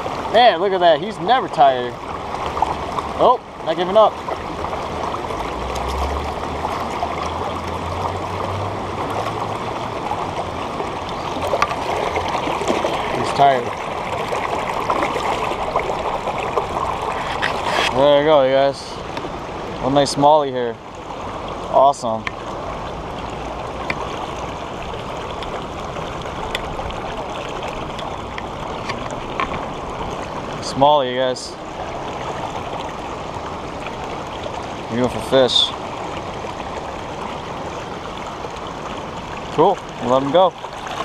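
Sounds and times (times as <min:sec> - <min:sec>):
river current rushing and gurgling: 0:00.0 - 0:41.0.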